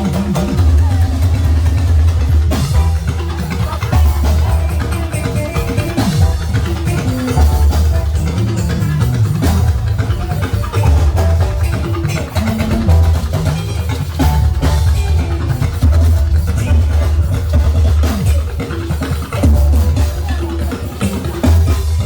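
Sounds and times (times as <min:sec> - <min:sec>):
music with drums and heavy bass: 0:00.0 - 0:22.0.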